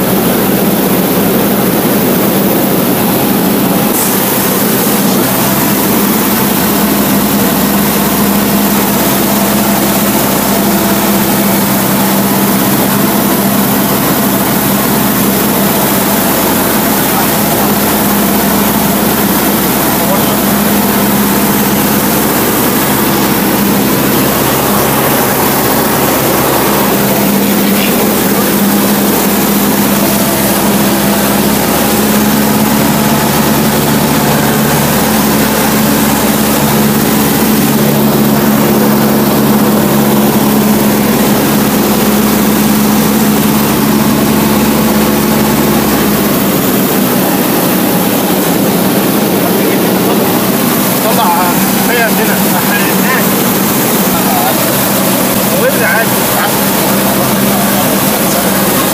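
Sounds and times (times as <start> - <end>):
small plane engine droning: 0.0 - 58.9.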